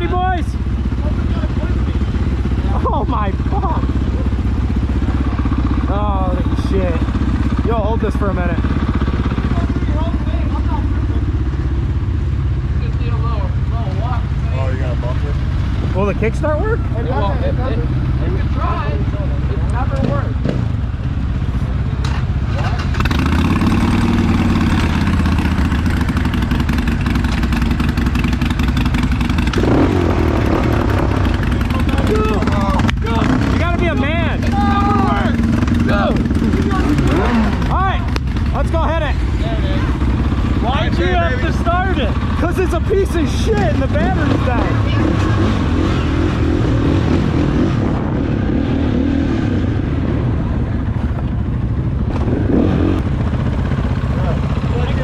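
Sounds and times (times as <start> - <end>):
dirt bike engines idling: 0.0 - 55.0.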